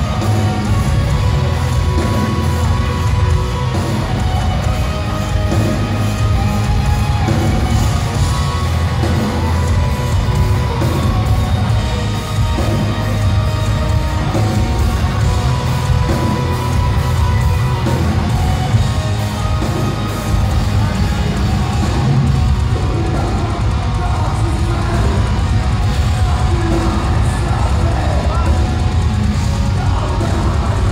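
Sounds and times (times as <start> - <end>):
metal band playing live: 0.0 - 30.9.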